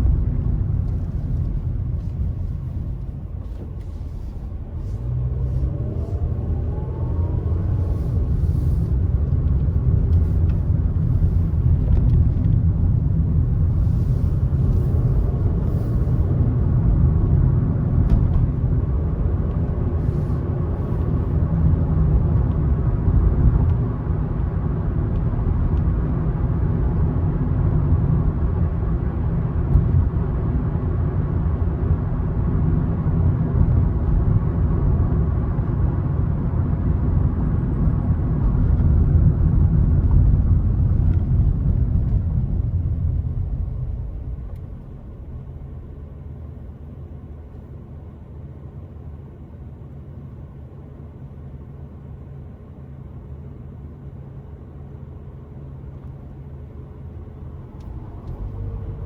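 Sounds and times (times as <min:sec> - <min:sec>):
tyre road noise: 0:00.0 - 0:46.5, 0:55.2 - 0:59.0
car engine rumble: 0:00.0 - 0:59.0.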